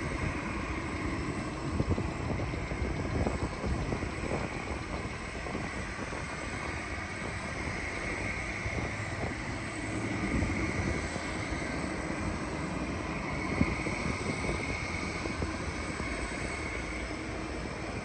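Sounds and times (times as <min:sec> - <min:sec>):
jet airliner engines: 0:00.0 - 0:18.0.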